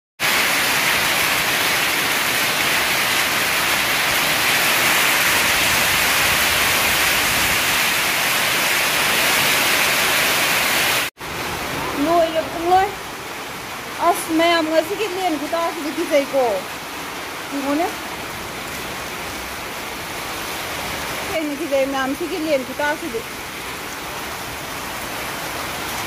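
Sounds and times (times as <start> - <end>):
heavy hail and rain: 0.2 - 26.0
soft rainfall: 0.2 - 26.0.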